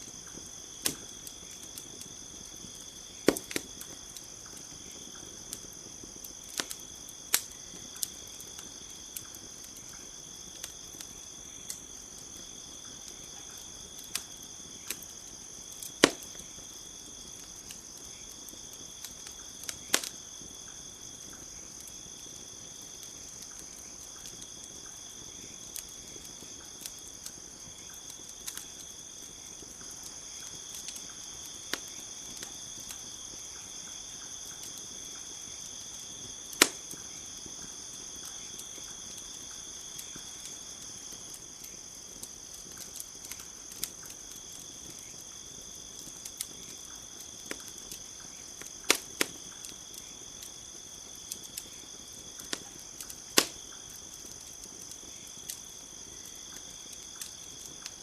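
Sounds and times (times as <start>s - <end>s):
campfire crackling: 0.0s - 58.0s
crickets chirring: 0.0s - 58.0s
sharp fire pops: 0.0s - 58.0s.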